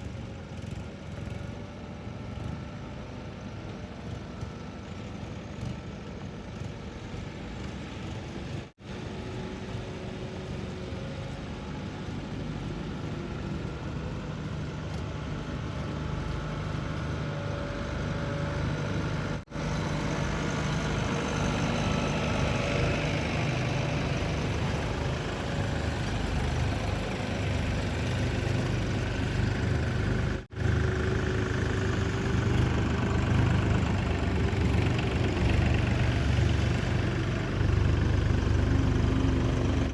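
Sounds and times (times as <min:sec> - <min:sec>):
diesel machinery engines: 0:00.0 - 0:39.9.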